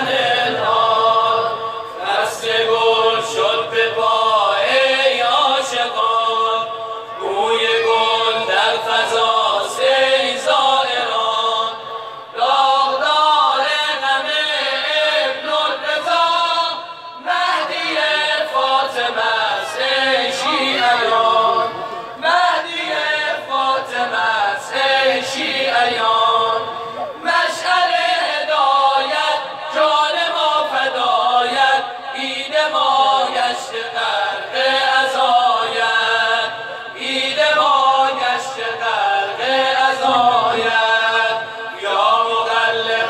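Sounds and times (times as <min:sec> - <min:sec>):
men chanting religious song: 0:00.0 - 0:43.0.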